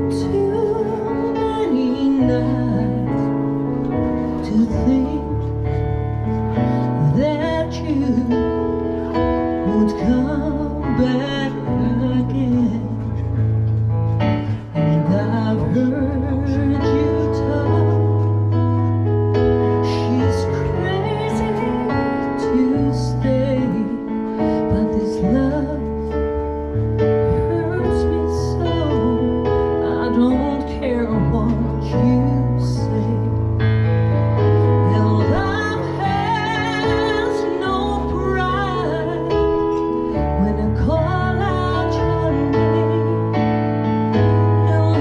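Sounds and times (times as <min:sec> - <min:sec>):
woman singing: 0:00.0 - 0:45.0.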